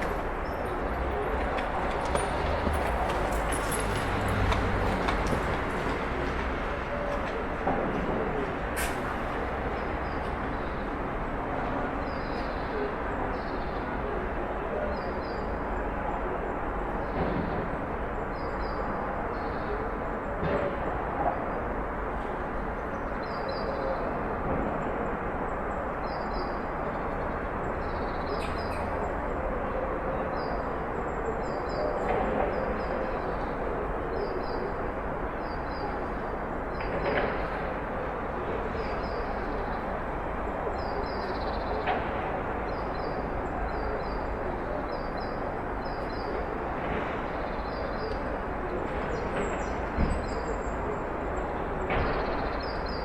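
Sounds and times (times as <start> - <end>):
distant traffic: 0.0 - 53.0.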